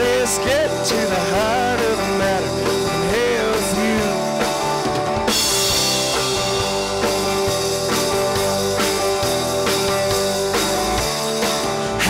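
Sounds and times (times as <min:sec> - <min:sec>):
bass guitar: 0:00.0 - 0:12.0
drum kit beat: 0:00.0 - 0:12.0
electric guitars: 0:00.0 - 0:12.0.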